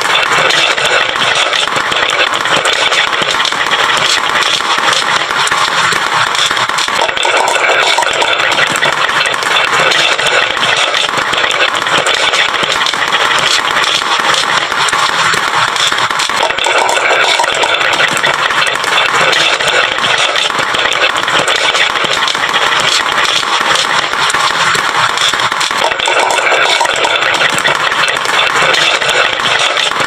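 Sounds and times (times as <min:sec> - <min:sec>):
marbles rattling down wooden run: 0:00.0 - 0:30.0.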